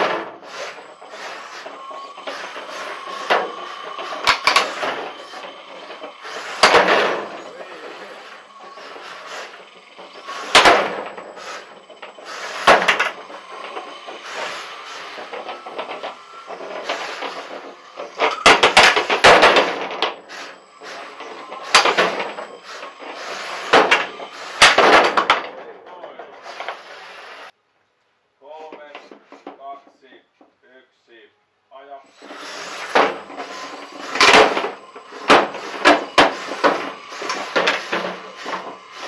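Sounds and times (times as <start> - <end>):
robots banging knocks and clatters: 0.0 - 26.8, 32.2 - 39.0.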